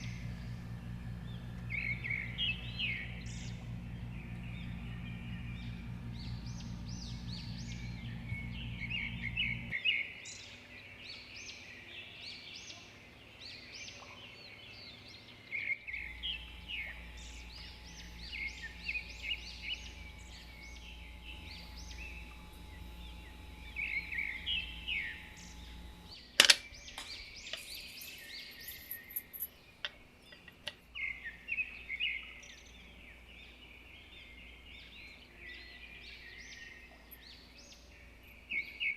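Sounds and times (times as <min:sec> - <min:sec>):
birds chirping: 0:00.0 - 0:38.9
low electrical hum: 0:00.0 - 0:38.9.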